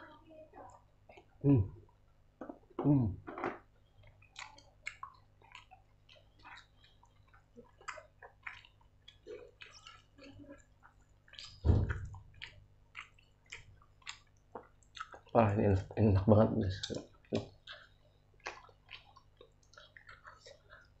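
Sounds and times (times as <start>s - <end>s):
wet chewing sounds: 3.6s - 21.0s.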